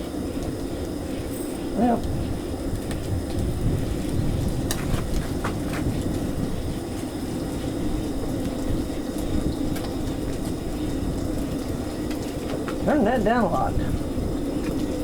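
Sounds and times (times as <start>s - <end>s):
patties frying in oil: 0.0s - 15.0s
steady low rumble: 0.0s - 15.0s.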